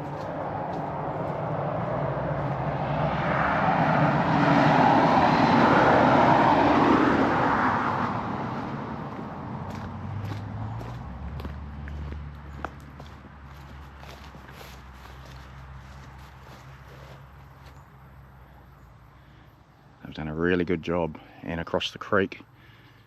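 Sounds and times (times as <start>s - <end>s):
vehicle driving past: 0.0s - 20.1s.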